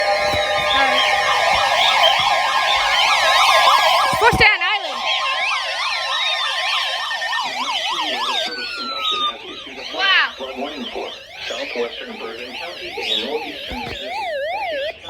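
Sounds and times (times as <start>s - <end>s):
electronic sirens wailing: 0.0s - 15.0s.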